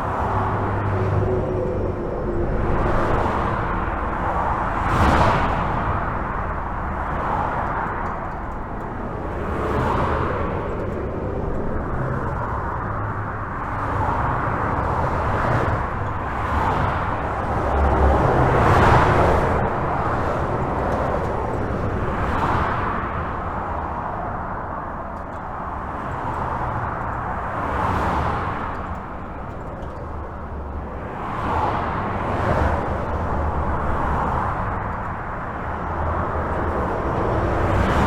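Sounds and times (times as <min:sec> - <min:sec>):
cars and trucks passing: 0:00.0 - 0:38.0
highway traffic: 0:00.0 - 0:38.0.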